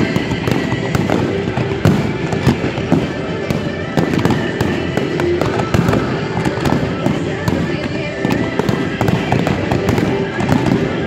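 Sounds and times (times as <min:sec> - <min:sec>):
fireworks bursting and crackling: 0:00.0 - 0:11.0
ground fountain fireworks: 0:00.0 - 0:11.0.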